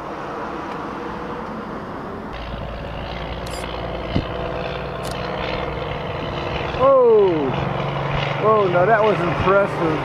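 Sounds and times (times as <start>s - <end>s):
motor-like drone: 0.0s - 10.0s.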